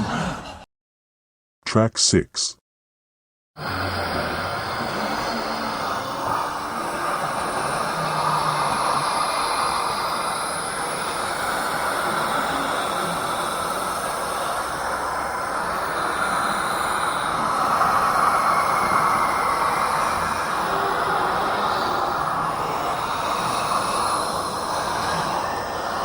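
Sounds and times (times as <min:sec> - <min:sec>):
many voices moaning: 0:00.0 - 0:00.6, 0:03.6 - 0:26.0.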